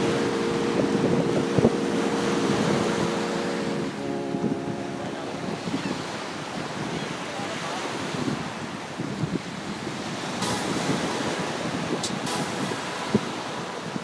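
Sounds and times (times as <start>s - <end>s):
surf washing onto beach: 0.0s - 14.0s
wind buffeting microphone: 0.0s - 14.0s.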